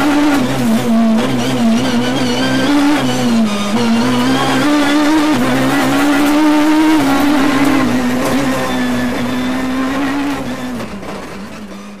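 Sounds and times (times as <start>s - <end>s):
rally car engine revving hard: 0.0s - 12.0s.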